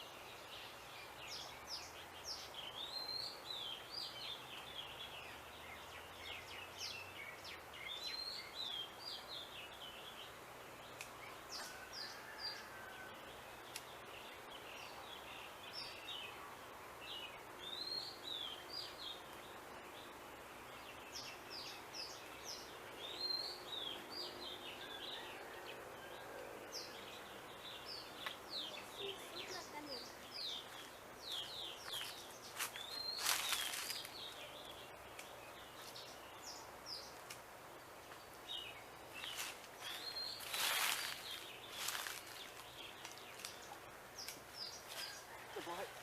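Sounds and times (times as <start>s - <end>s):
outdoor background hiss: 0.0s - 46.0s
small birds chirping: 0.0s - 46.0s.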